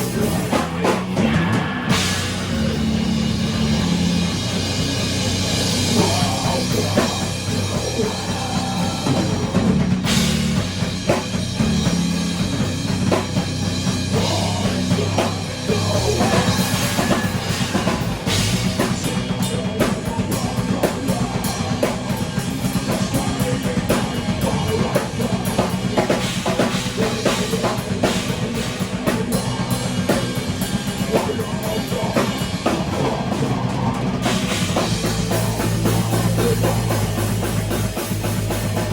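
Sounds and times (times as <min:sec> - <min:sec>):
drum kit pounding: 0:00.0 - 0:38.9
heavy rock band playing: 0:00.0 - 0:38.9.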